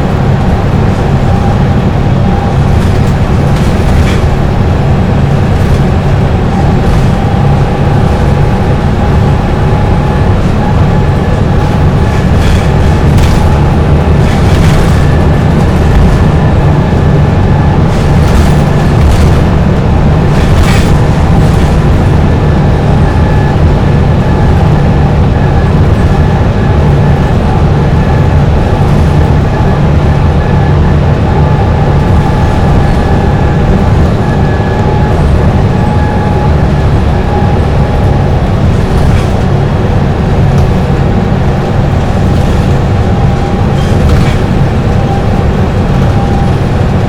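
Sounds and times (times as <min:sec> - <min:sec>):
bus engine drone: 0:00.0 - 0:47.0
faint higher whine: 0:00.0 - 0:47.0.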